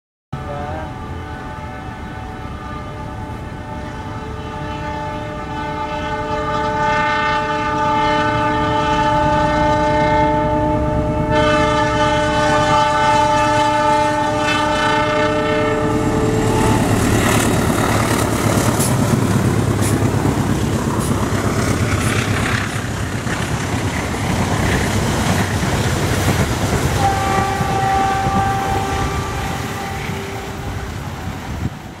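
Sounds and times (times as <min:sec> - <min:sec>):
locomotive horn blast: 0:00.4 - 0:23.6, 0:26.8 - 0:31.8
train wheels rumbling on rails: 0:02.9 - 0:32.0.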